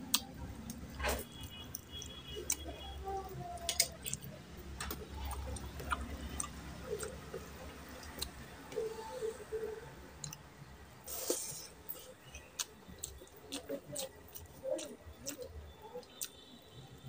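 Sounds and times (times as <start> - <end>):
chewing and lip-smacking: 0.1 - 3.0, 3.6 - 8.9, 10.2 - 10.5, 11.2 - 16.4.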